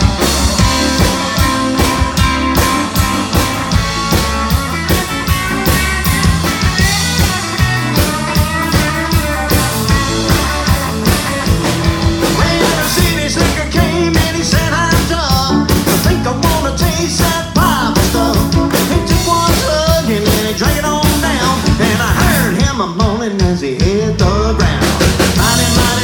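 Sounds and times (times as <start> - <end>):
bass line: 0.0 - 26.0
country band playing: 0.0 - 26.0
steady drum beat: 0.0 - 26.0.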